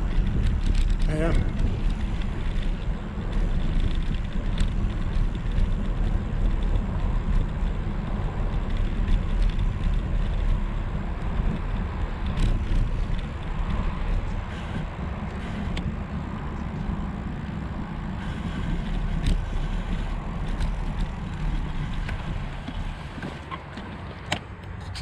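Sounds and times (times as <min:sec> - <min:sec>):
bike tyre noise: 0:00.0 - 0:25.0
wind rumble on microphone: 0:00.0 - 0:25.0.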